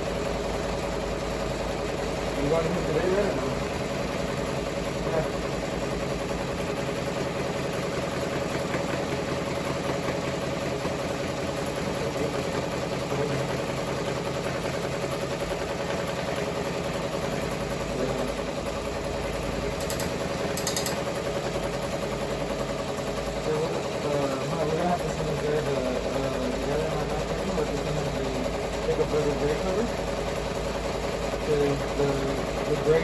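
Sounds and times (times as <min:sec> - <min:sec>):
embroidery machine chattering: 0:00.0 - 0:33.0.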